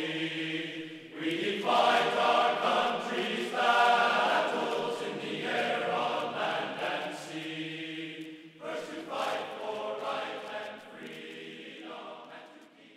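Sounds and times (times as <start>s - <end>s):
choir singing held chords: 0.0s - 12.9s.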